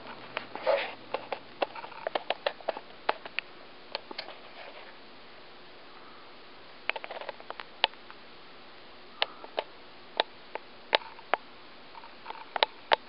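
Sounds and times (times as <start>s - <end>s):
ceiling fan motor running: 0.0s - 13.0s.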